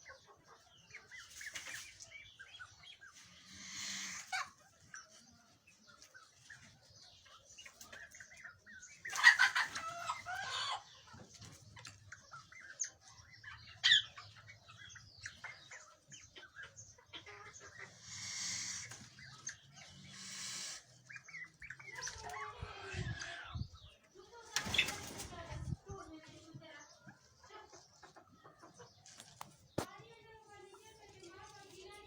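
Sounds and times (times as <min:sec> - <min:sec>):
fowl chirps and clucks: 0:00.0 - 0:32.0.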